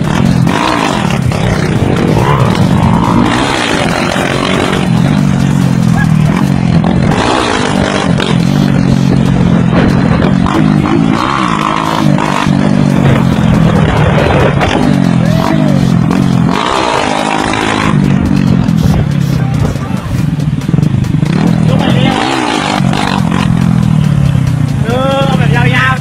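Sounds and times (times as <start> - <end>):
small motorcycle engine running: 0.0 - 26.0.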